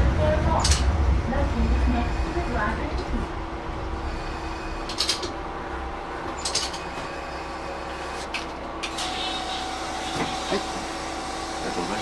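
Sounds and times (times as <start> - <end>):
railcar low rumble and hum: 0.0 - 12.0.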